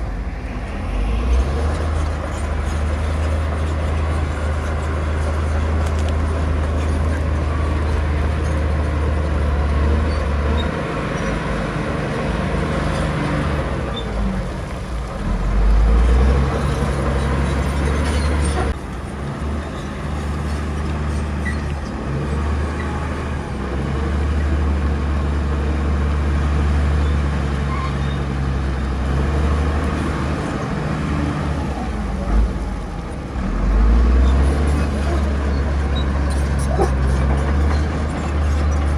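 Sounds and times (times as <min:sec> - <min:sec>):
bulldozer diesel engine drone: 0:00.0 - 0:38.9
engine clatter: 0:00.0 - 0:38.9.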